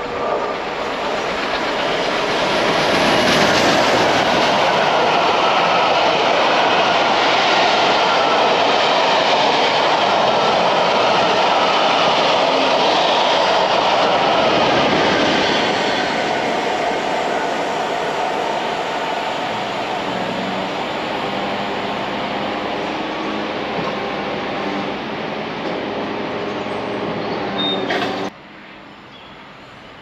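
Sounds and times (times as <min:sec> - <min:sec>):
train wheels rushing on rail: 0:00.0 - 0:28.4.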